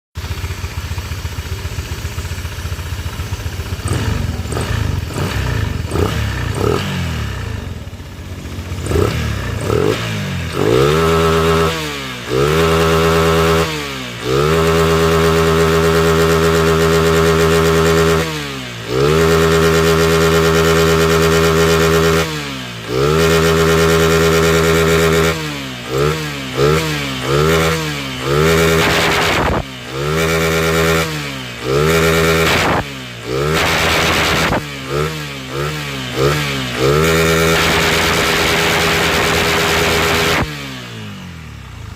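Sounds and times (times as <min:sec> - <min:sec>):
scooter engine revving: 0:00.2 - 0:41.9.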